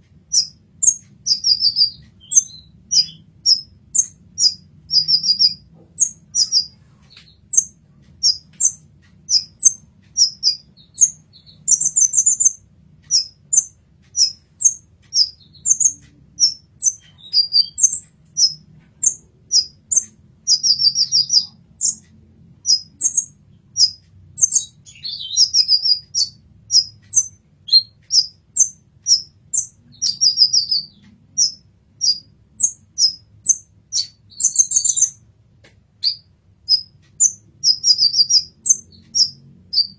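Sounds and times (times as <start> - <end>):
sunbird chirping and trilling: 0.2 - 35.2, 36.0 - 39.9.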